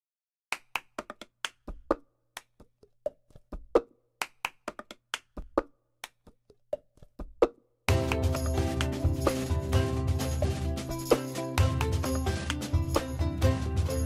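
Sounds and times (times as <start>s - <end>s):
hand claps: 0.5s - 9.5s, 11.1s - 13.4s.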